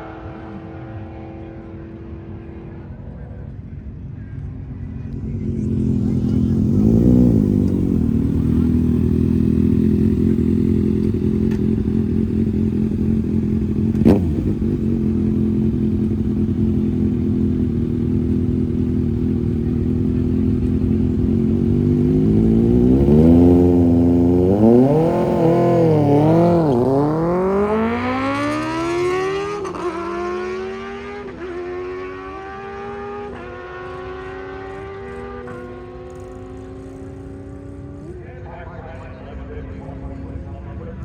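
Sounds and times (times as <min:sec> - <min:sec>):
race car engine idling and revving: 0:00.0 - 0:41.0.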